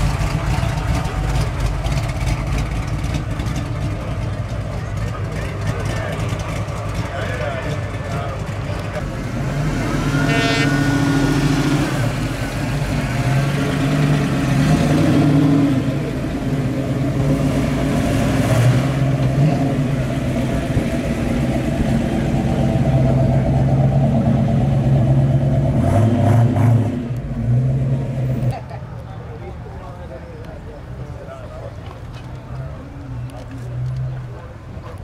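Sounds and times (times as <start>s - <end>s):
car engines rumbling past: 0.0s - 35.0s.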